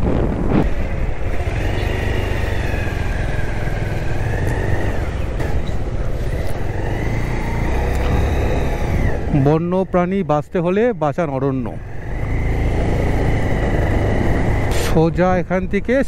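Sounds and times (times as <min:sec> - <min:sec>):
motorcycle engine and road rumble: 0:00.0 - 0:16.0.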